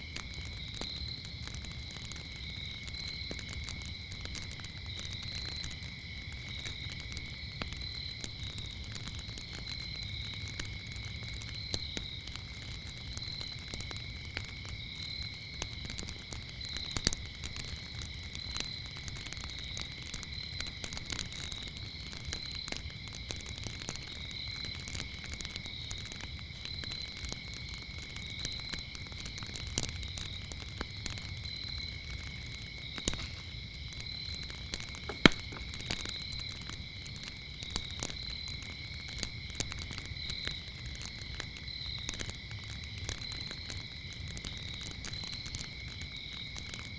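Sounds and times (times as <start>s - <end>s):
crickets chirping: 0.0s - 46.9s
wood fire crackling and popping: 0.0s - 46.9s.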